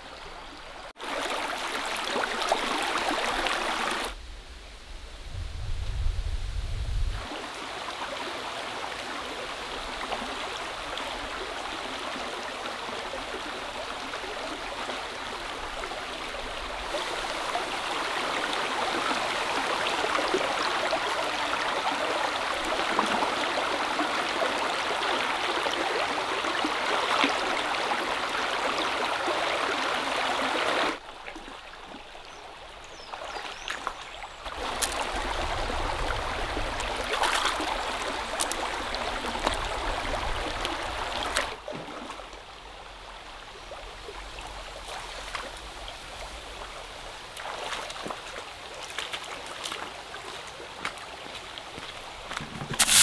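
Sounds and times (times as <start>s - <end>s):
stream water running: 0.0s - 4.3s, 7.1s - 53.0s.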